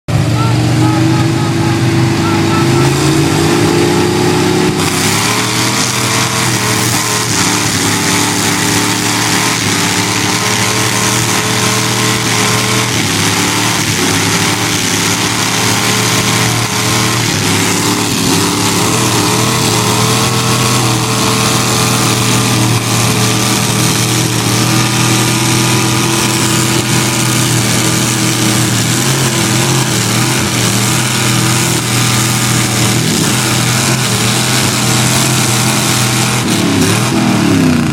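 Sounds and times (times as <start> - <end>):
truck engine at high revs: 0.0 - 37.9.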